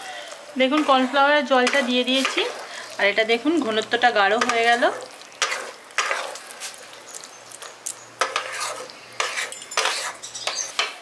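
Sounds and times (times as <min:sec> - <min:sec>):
light sizzle: 0:00.0 - 0:11.0
utensil scraping a pan: 0:00.8 - 0:03.0, 0:04.4 - 0:11.0.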